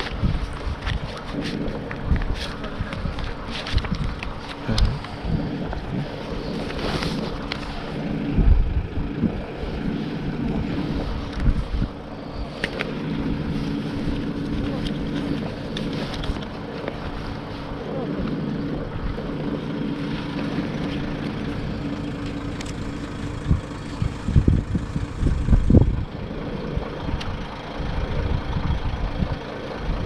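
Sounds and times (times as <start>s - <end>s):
motorbike engine idling: 0.0s - 30.0s.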